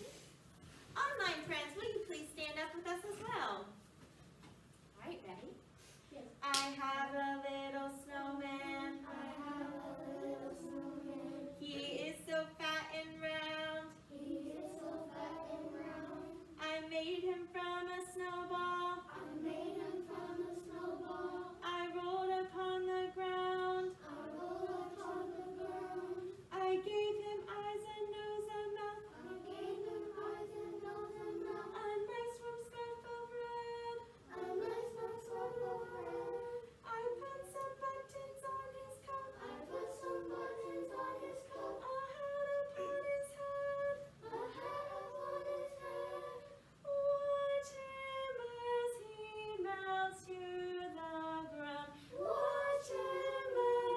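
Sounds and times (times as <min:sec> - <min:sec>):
woman and children singing: 0:06.4 - 0:53.9.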